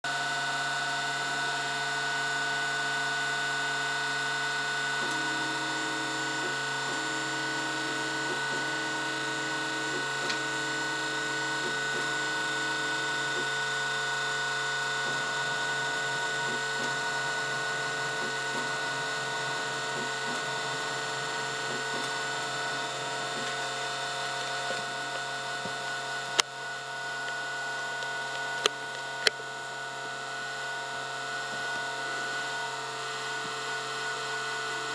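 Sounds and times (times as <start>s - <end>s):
stepper motor whine: 0.0s - 34.9s.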